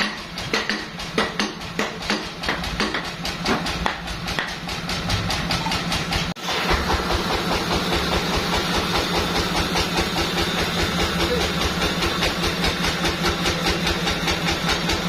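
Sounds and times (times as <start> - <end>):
sawmill machinery humming: 0.1 - 15.0.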